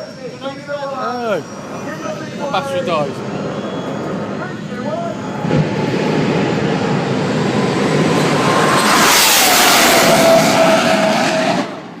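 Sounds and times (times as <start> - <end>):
jet car passing with whine: 0.0 - 12.0.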